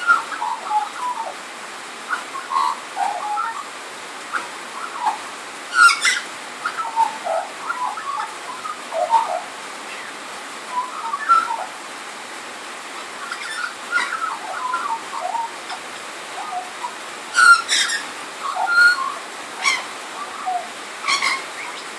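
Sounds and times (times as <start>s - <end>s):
rain on a tin roof: 0.0s - 21.9s.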